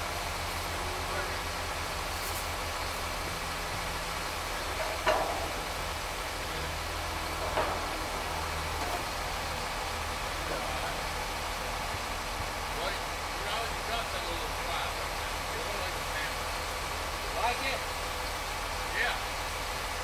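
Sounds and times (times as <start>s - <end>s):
pile-driving rig engine running: 0.0s - 20.0s.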